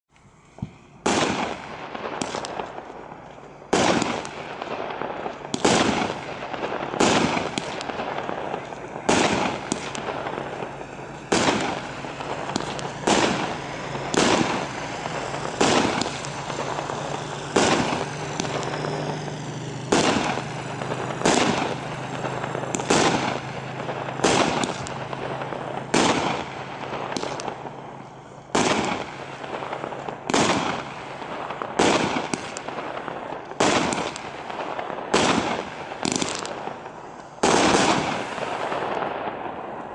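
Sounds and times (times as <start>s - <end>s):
fireworks hiss: 0.1s - 39.9s
fireworks sharp reports: 0.2s - 39.9s.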